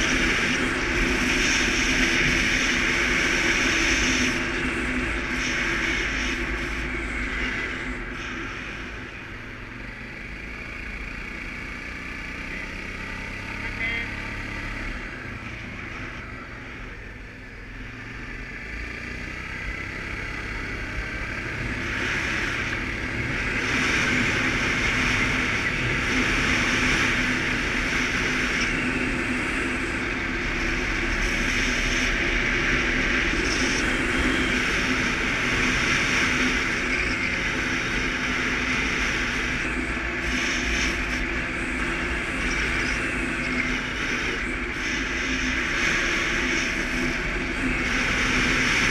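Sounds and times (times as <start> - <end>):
rushing noise: 0.0 - 11.1, 18.7 - 48.9
atv engine running: 0.0 - 48.9.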